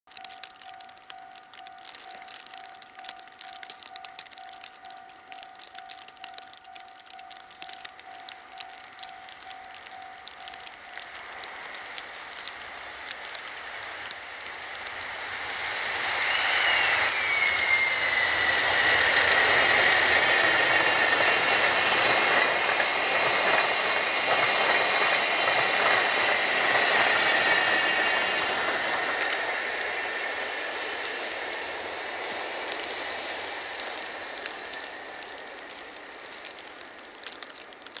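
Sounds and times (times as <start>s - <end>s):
high locomotive whine: 0.1s - 38.0s
passenger train passing: 0.2s - 38.0s.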